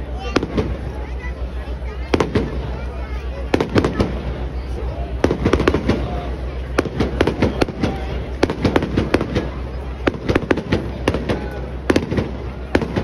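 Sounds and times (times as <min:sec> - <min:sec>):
continuous low rumble: 0:00.0 - 0:13.0
fireworks bursting: 0:00.2 - 0:13.0.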